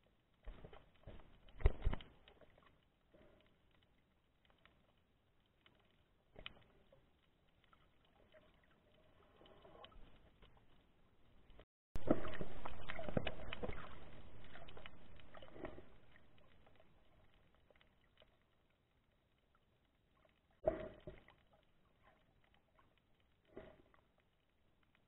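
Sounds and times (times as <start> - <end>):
muffled underwater crackling: 0.4 - 25.0.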